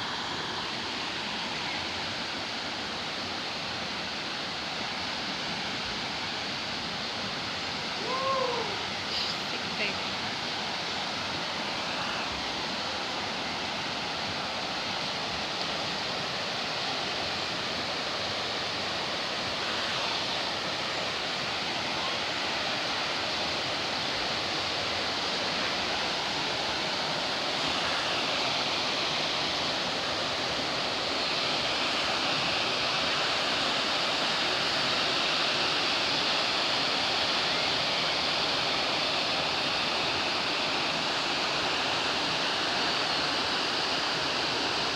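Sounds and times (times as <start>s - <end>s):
river rushing over rocks: 0.0s - 44.9s.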